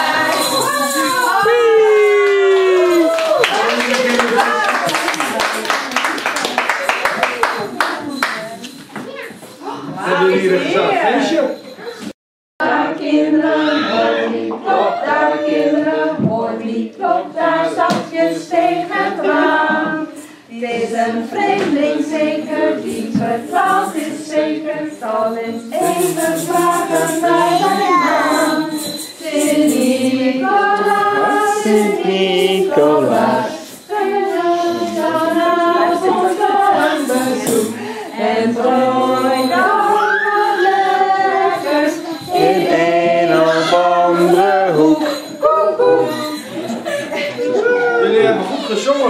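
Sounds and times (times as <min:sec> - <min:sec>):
group of voices singing: 0:00.0 - 0:04.7, 0:12.6 - 0:49.0.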